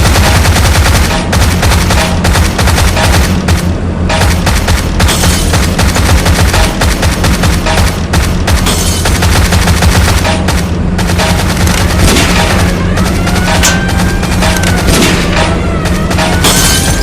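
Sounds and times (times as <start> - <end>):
machine-gun fire: 0.0 - 17.0
old car engines droning: 0.0 - 17.0.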